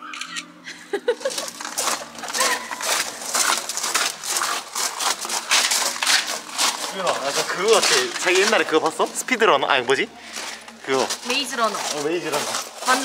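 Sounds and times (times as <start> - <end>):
footsteps crunching on gravel: 1.0 - 13.0.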